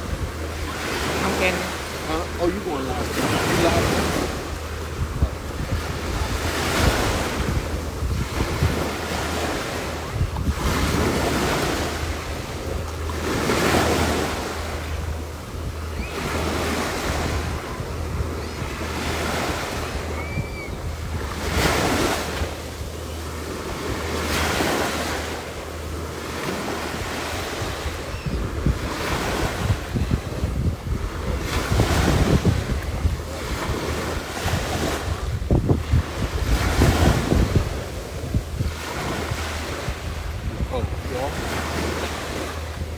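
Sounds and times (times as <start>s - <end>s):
waves washing in: 0.0s - 42.9s
wind rumbling on microphone: 0.0s - 42.9s.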